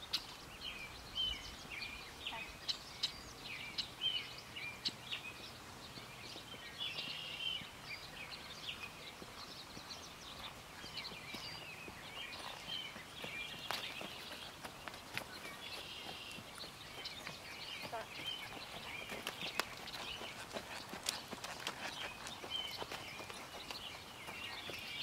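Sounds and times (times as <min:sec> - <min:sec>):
outdoor background hiss: 0:00.0 - 0:21.6
birds chirping and singing: 0:00.0 - 0:25.0.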